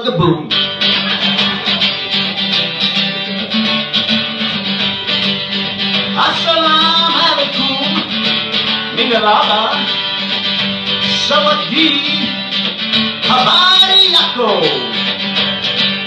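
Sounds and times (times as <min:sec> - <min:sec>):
man singing: 0:00.0 - 0:03.5, 0:05.8 - 0:15.2
acoustic guitar strumming: 0:00.0 - 0:16.0.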